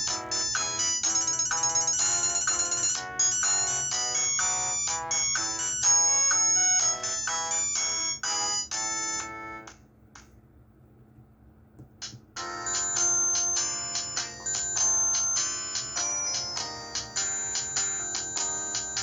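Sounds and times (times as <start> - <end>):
polyphonic phone ringtone: 0.0 - 9.7, 12.4 - 19.0.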